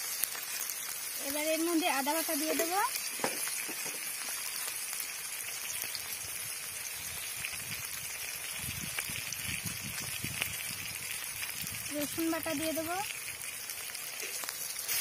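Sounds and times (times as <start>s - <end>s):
masala sizzling in oil: 0.0s - 15.0s.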